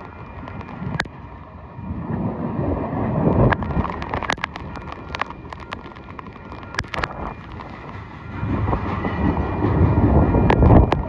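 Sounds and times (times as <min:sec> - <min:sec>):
wind buffeting microphone: 0:00.0 - 0:11.0
freight train rumbling past: 0:00.1 - 0:11.0.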